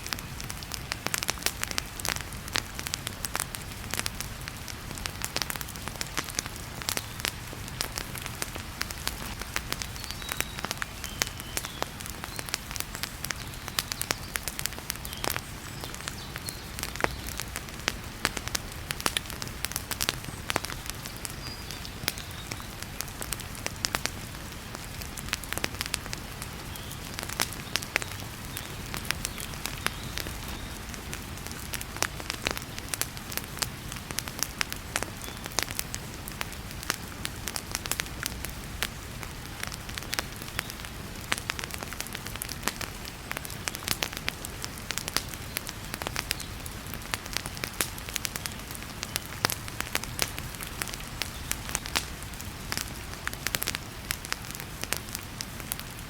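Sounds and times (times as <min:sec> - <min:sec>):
heavy rain hiss: 0:00.0 - 0:56.0
wood fire crackling and popping: 0:00.0 - 0:56.0.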